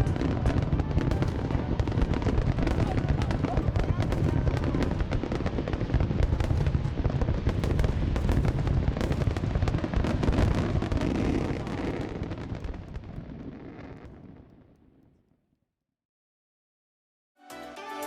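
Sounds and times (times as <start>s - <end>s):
fireworks bangs and crackles: 0.0s - 15.2s.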